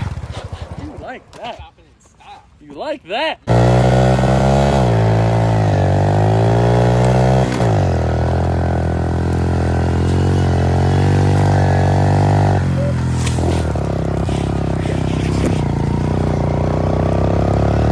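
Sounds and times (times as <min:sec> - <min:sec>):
motorcycle engine revving: 0:00.0 - 0:01.2, 0:03.5 - 0:17.9.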